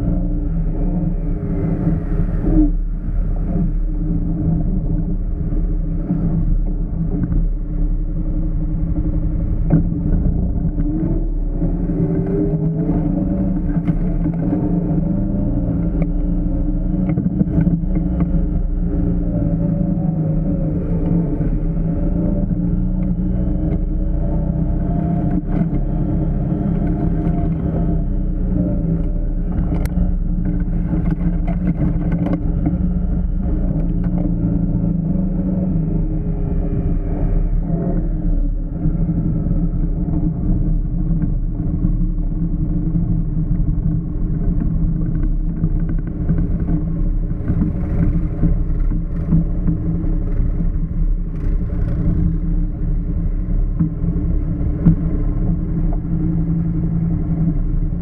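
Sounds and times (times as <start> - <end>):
off-road vehicle engine droning: 0.0 - 58.0.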